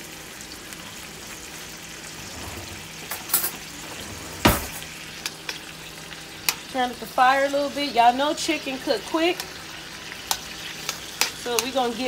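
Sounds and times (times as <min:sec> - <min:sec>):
chicken sizzling in hot oil: 0:00.0 - 0:04.0, 0:04.8 - 0:12.0.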